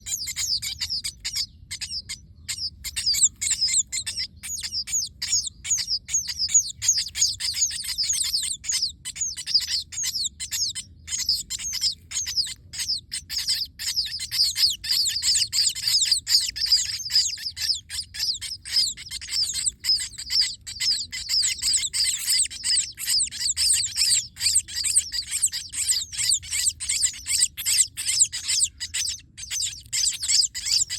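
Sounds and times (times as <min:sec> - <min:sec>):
sparrows chirping: 0:00.0 - 0:30.9.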